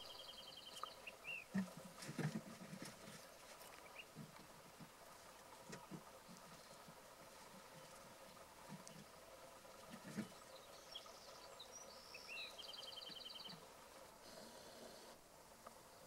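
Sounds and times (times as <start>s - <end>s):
songbird singing: 0.0s - 2.0s, 3.0s - 15.1s.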